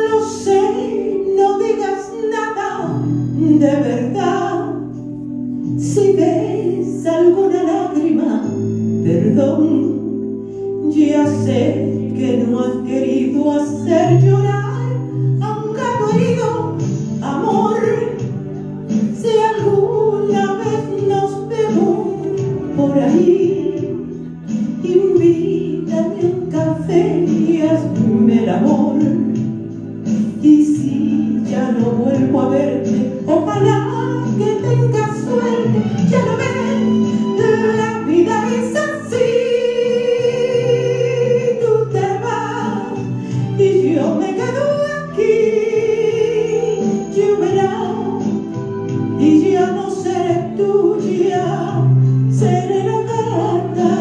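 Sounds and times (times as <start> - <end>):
karaoke backing track: 0.0 - 54.0
woman singing a ballad: 0.0 - 54.0.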